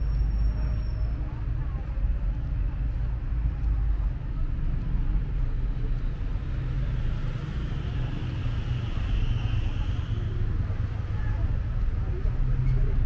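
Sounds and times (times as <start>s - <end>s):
cars rumbling along street: 0.0s - 13.0s.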